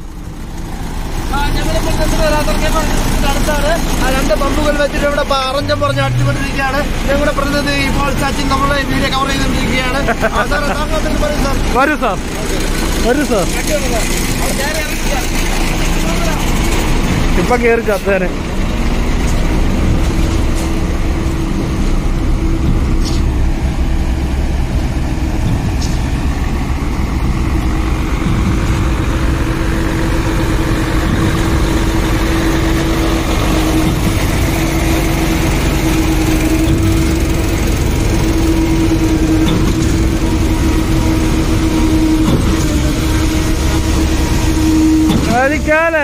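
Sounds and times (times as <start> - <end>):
heavy diesel engines running: 0.0 - 46.0.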